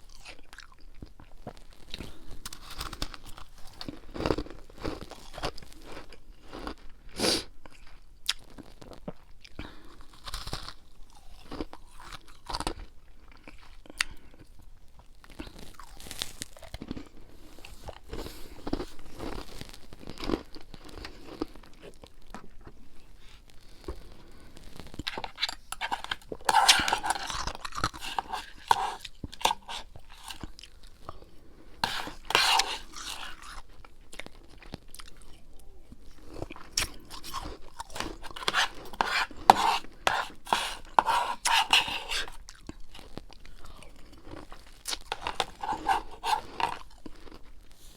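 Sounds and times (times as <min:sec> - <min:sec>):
chewing crunchy frost: 0:00.0 - 0:47.9.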